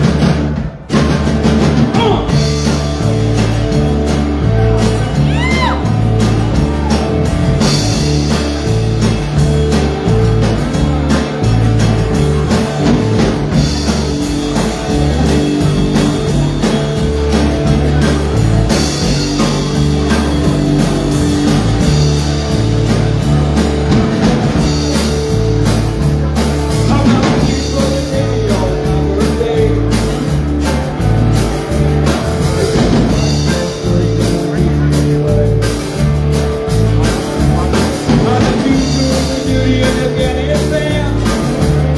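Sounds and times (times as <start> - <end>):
bass line: 0.0 - 41.9
live rock band playing: 0.0 - 41.9.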